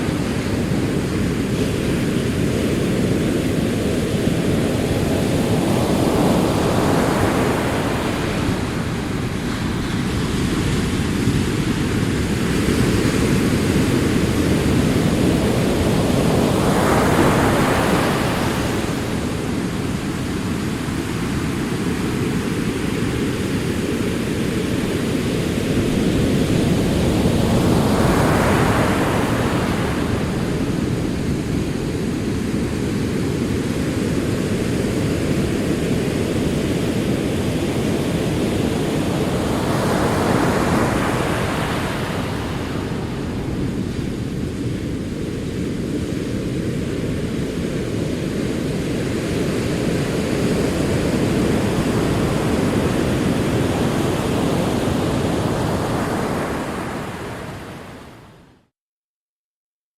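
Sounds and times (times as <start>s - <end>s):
ocean waves rolling: 0.0s - 58.5s
waves breaking and washing in: 0.0s - 58.7s.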